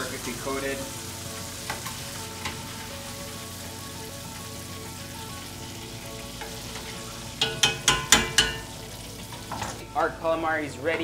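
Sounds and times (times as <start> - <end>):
oil sizzling in a pot: 0.0 - 11.0.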